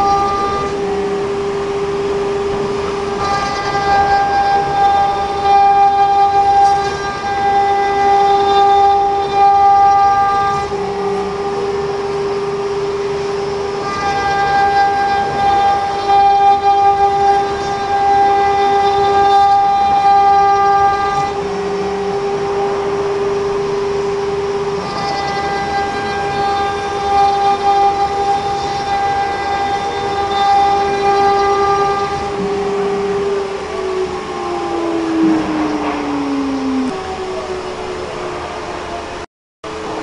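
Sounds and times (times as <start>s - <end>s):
router spindle whine: 0.0s - 40.0s.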